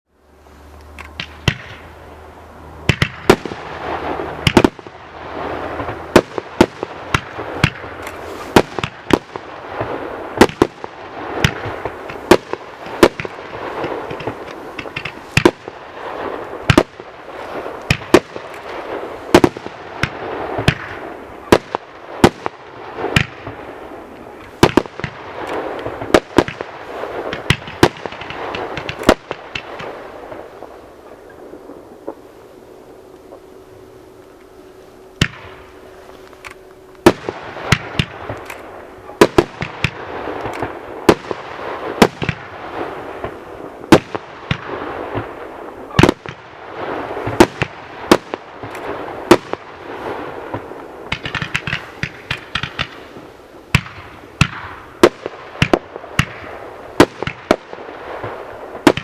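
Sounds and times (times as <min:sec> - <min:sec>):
firework hissing and crackling: 0:00.2 - 0:59.0
firework bangs: 0:01.0 - 0:33.5, 0:35.2 - 0:35.8, 0:37.0 - 0:59.0.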